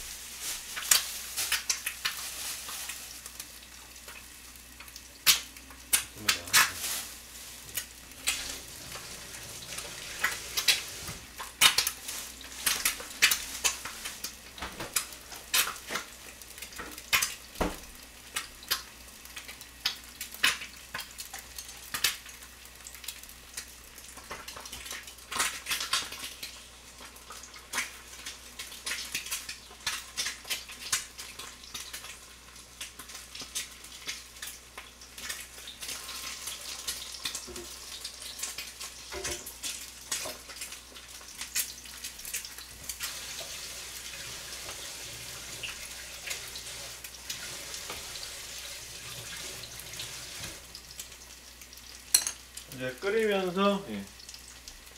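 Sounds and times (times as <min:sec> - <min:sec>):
egg sizzling in oil: 0:00.0 - 0:54.9.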